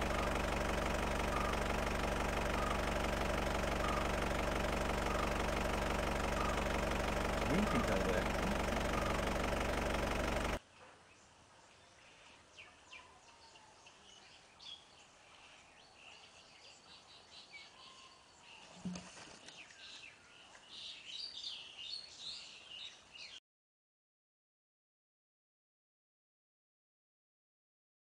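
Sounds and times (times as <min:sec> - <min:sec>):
faint outdoor ambience: 0:00.0 - 0:23.4
small birds chirping: 0:00.0 - 0:23.4.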